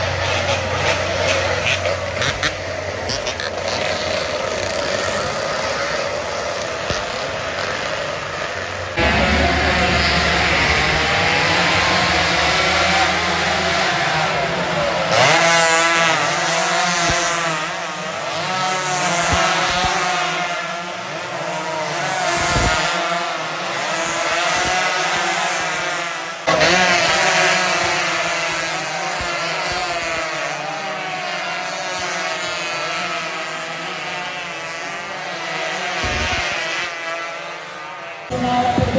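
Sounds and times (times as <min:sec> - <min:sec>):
motorcycle engines droning: 0:00.0 - 0:38.9.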